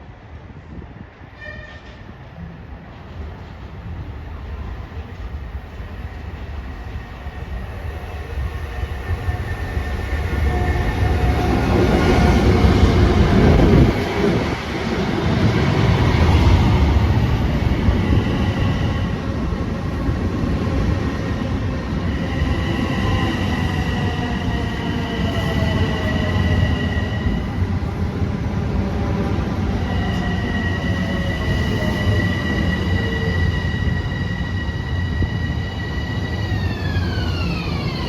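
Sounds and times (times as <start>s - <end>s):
train passing close: 0.0s - 38.0s.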